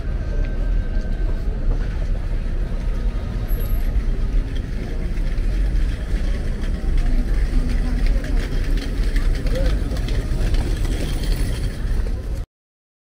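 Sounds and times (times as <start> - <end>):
road traffic rumble: 0.0 - 12.4.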